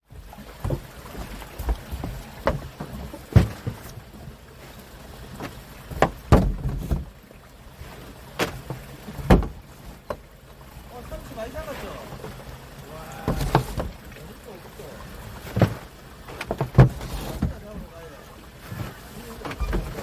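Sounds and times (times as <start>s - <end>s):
sharp knocks and thumps on boat: 0.1s - 20.0s.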